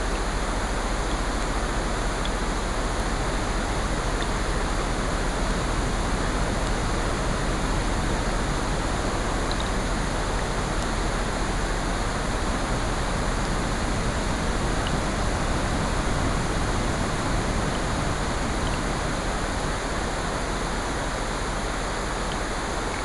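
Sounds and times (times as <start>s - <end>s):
ocean surf: 0.0s - 23.0s
rain: 0.0s - 23.0s.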